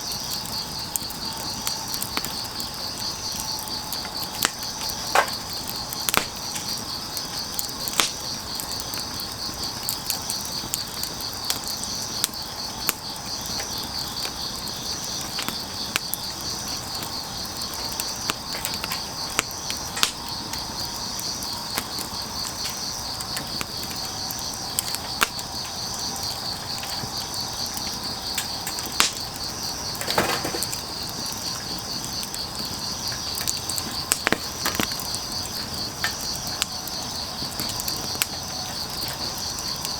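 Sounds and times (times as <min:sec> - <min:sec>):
crickets chirping: 0:00.0 - 0:39.9
wood fire crackling: 0:00.0 - 0:39.9.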